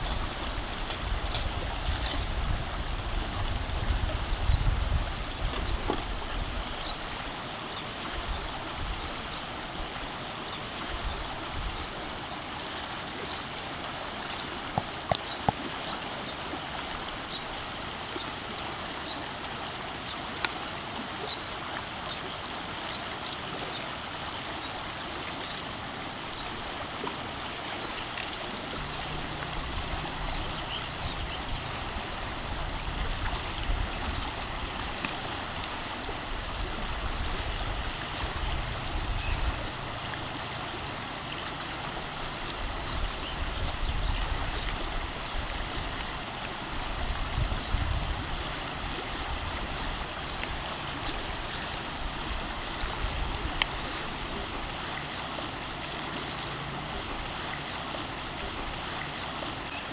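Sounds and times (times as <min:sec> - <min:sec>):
stream water running: 0:00.0 - 0:59.9.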